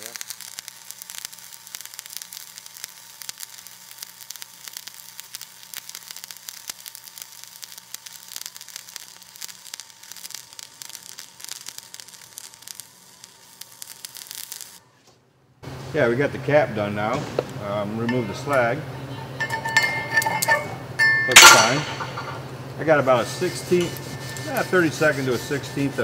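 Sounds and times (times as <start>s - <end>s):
welding arc crackling: 0.0s - 14.9s, 19.4s - 26.0s.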